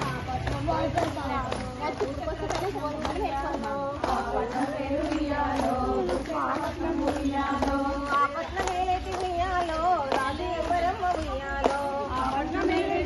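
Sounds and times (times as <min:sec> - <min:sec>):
hand claps: 0:00.0 - 0:13.0
women singing folk song: 0:00.0 - 0:13.0.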